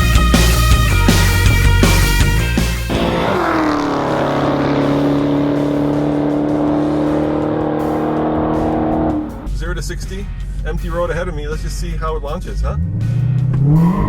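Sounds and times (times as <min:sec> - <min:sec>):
car engine droning: 0:00.7 - 0:14.0.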